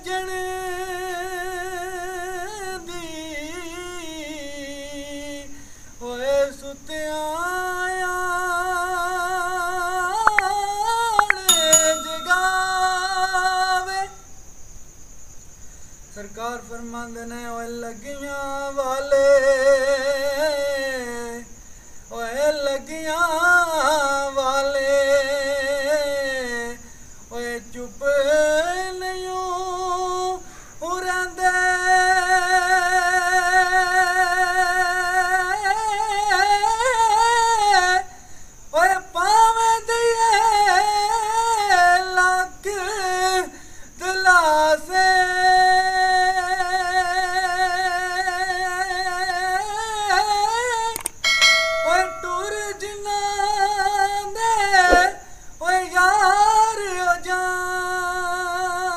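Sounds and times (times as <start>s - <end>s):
man singing unaccompanied: 0.0s - 14.2s, 16.1s - 51.0s, 51.6s - 58.9s.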